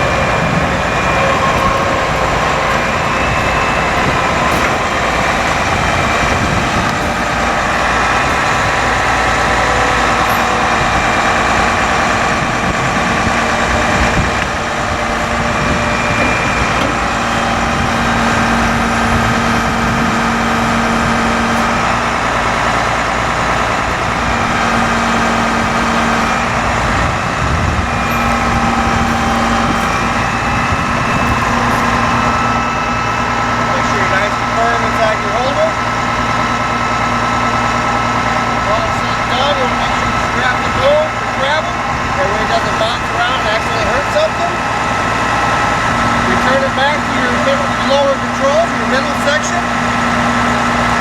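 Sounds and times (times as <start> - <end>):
diesel truck engine at high idle: 0.0 - 51.0
hydraulic pump whining: 0.0 - 51.0.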